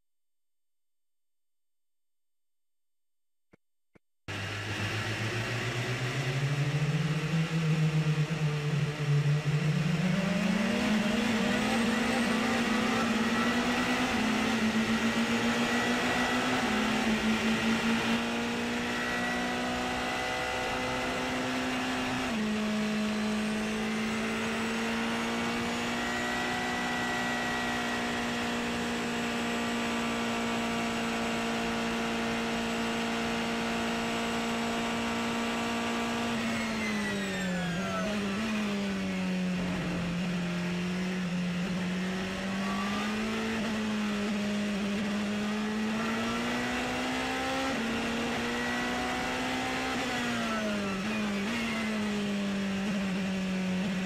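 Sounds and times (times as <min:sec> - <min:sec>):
race car engine accelerating: 0:04.3 - 0:54.0.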